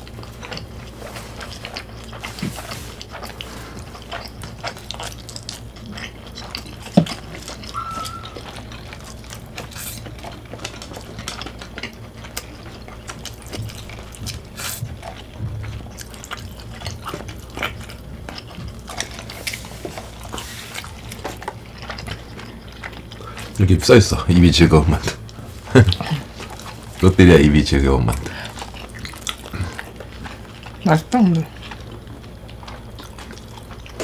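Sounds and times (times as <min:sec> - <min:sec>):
chewing french fries: 0:00.0 - 0:34.0
steady low hum: 0:00.0 - 0:34.0.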